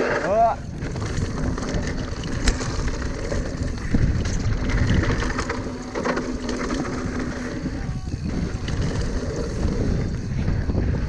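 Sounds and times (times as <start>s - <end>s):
bike tyre and frame rattle: 0.0s - 11.0s
wind rushing on microphone: 0.2s - 11.0s.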